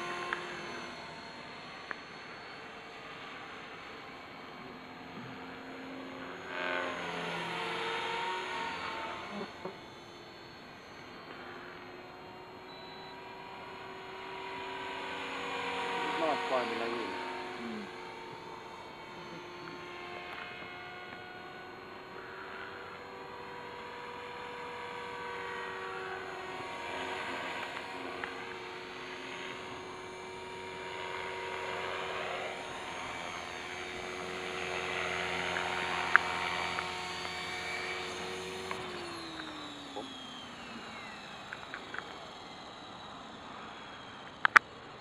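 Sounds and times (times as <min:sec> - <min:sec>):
rc helicopter motor whine: 0:00.0 - 0:45.0.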